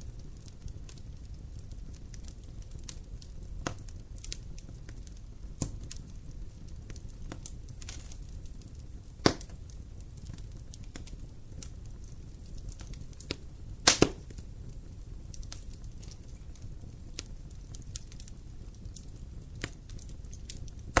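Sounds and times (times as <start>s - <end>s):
fire low rumble: 0.0s - 21.0s
wood fire sharp pops: 0.0s - 21.0s.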